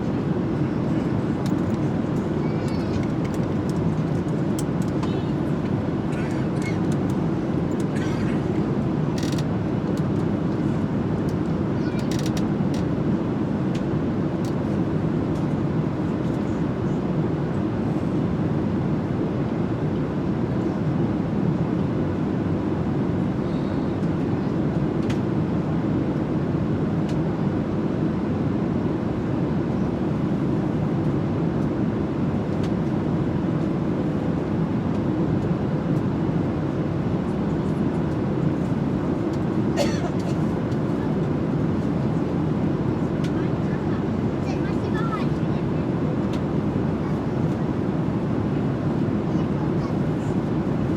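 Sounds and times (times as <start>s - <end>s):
airliner cabin roar: 0.0s - 50.9s.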